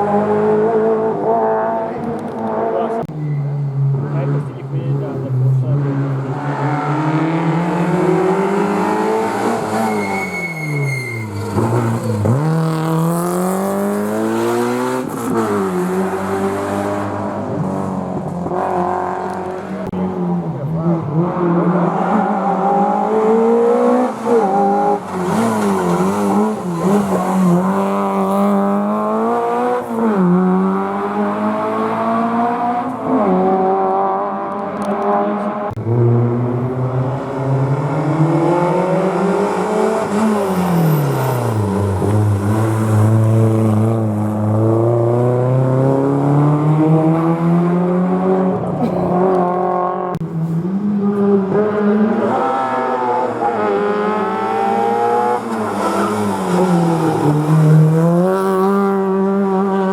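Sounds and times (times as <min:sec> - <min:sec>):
rally car engines accelerating: 0:00.0 - 0:59.9.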